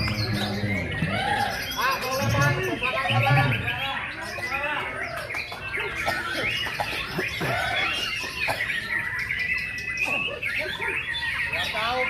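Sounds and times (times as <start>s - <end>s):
bird singing whistles and chatters: 0.0s - 12.0s.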